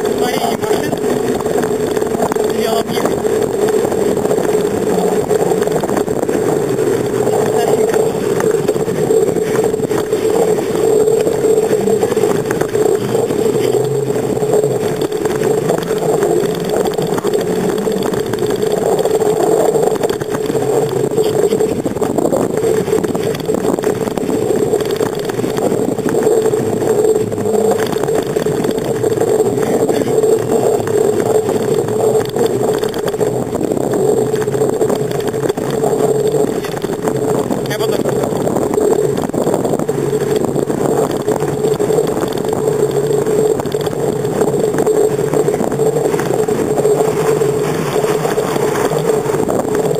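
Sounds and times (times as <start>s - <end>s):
bicycle road rumble: 0.0s - 49.9s
wind on microphone: 0.0s - 49.9s.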